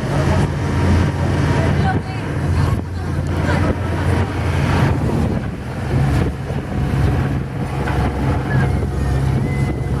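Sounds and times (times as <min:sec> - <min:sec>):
boat engine humming: 0:00.0 - 0:10.0
wind buffeting microphone: 0:00.0 - 0:10.0.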